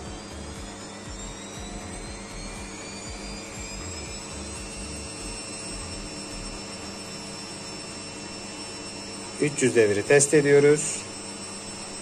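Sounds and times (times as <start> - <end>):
washing machine motor whine: 0.0 - 12.0
washing machine running noise: 0.0 - 12.0.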